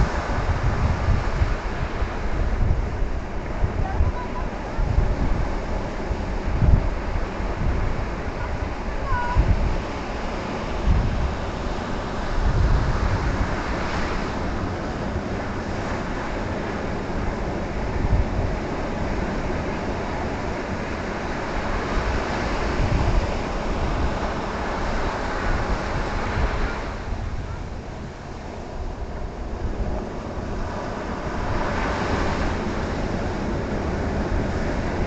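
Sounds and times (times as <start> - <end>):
ocean surf breaking: 0.0 - 35.0
wind rumbling on microphone: 0.0 - 35.0.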